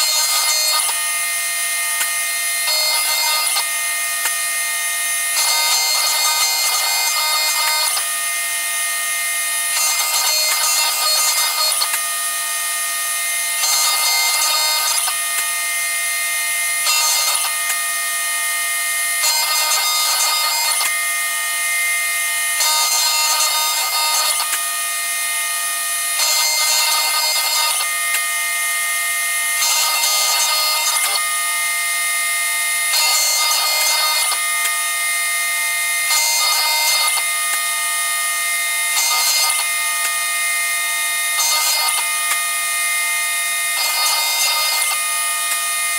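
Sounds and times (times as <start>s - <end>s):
bit cutting metal: 0.0s - 45.9s
router spindle whining: 0.0s - 45.9s.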